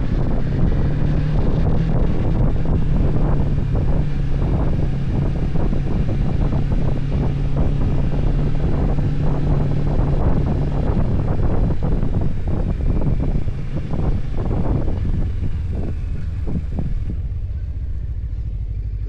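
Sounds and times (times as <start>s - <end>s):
wind buffeting microphone: 0.0s - 18.9s
motorcycle engine cruising: 0.0s - 19.0s.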